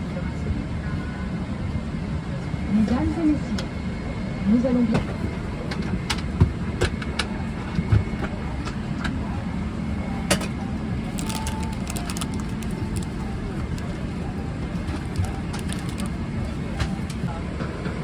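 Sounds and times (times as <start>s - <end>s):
aircraft cabin rumble: 0.6s - 18.0s.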